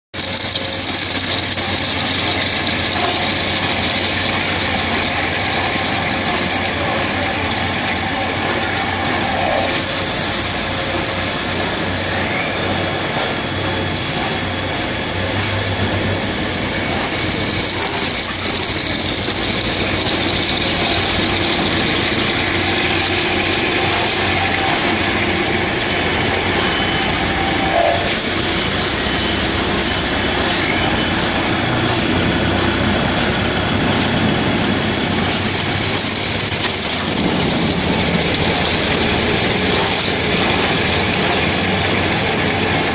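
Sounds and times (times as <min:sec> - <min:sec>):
coolant spray hissing: 0:00.2 - 0:42.9
drilling machine running: 0:00.2 - 0:42.9.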